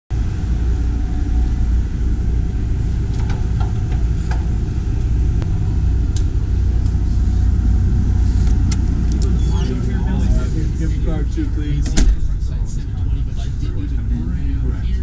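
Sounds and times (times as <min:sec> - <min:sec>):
engine idling: 0:00.1 - 0:15.0.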